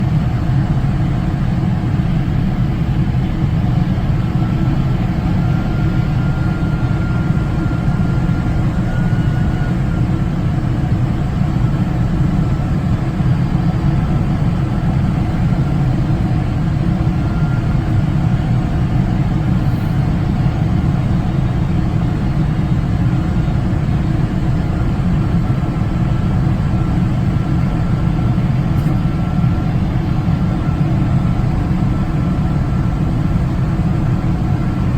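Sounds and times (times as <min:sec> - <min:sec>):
airplane engine roar in cabin: 0:00.0 - 0:34.9
faint high whine: 0:03.8 - 0:34.9.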